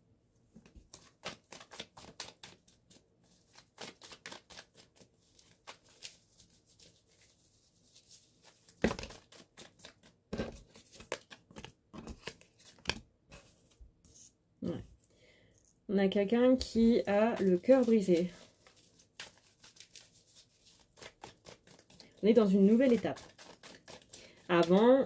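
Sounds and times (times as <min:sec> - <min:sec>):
cards shuffling: 0:00.6 - 0:14.2, 0:16.6 - 0:25.0.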